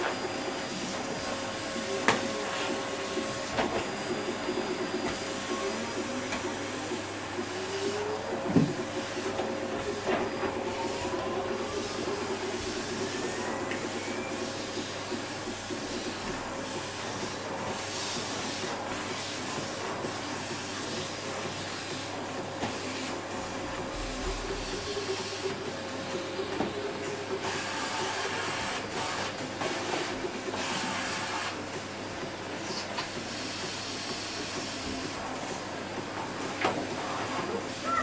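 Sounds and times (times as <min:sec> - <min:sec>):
vacuum cleaner humming: 0:00.0 - 0:38.0.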